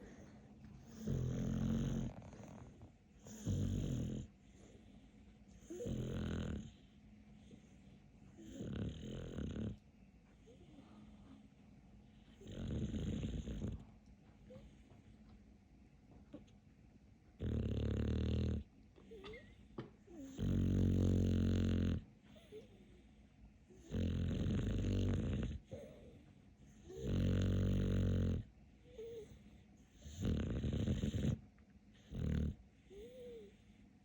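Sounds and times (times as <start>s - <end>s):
dog snoring: 0.0s - 11.4s, 12.0s - 13.9s, 17.4s - 23.0s, 23.7s - 33.8s.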